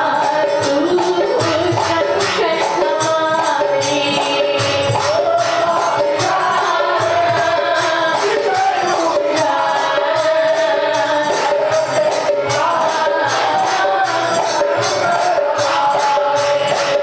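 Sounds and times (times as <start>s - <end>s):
hand drums: 0.0s - 17.0s
jingling hand percussion: 0.0s - 17.0s.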